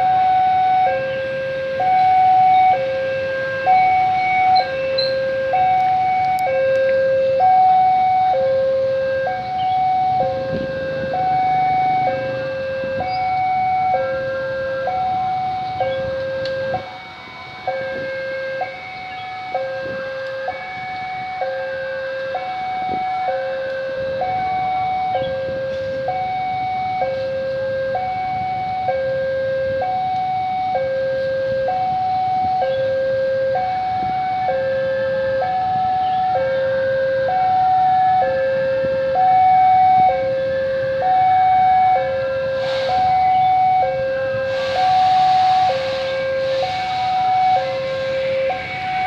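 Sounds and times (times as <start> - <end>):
two-tone crossing alarm: 0.0 - 49.0.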